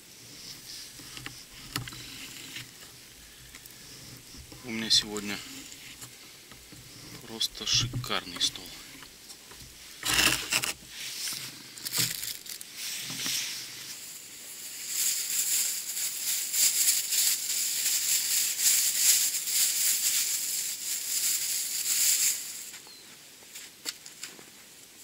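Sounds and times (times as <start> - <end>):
plastic bag crinkling: 0.2 - 13.4, 14.0 - 22.7.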